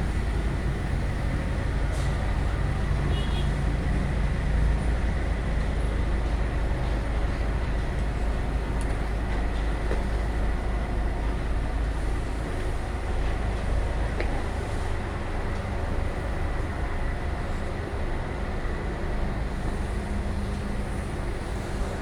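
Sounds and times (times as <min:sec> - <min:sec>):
diesel engines rumbling: 0:00.0 - 0:22.0.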